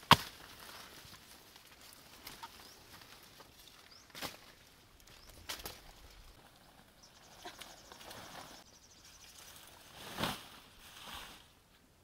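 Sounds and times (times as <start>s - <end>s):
stalks and leaves rustling: 0.0s - 11.9s.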